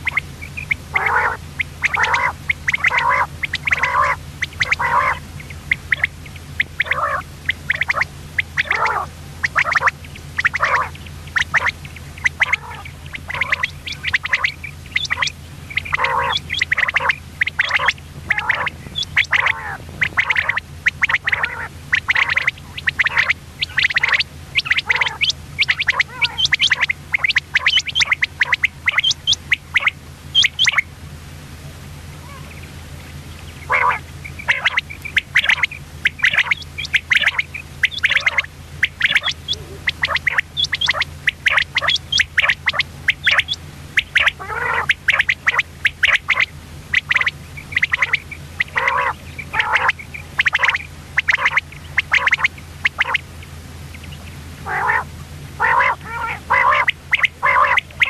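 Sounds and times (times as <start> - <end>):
quail calling: 0.0 - 31.0, 31.6 - 58.0
low steady hum: 0.0 - 58.0.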